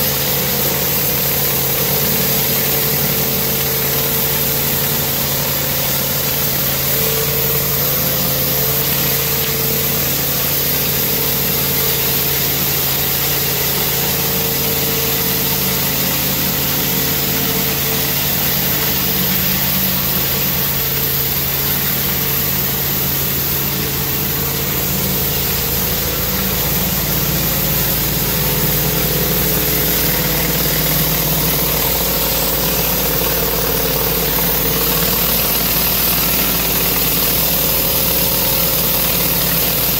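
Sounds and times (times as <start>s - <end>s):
pressure washer engine running: 0.0s - 39.9s
water jets hissing on concrete: 0.0s - 39.9s.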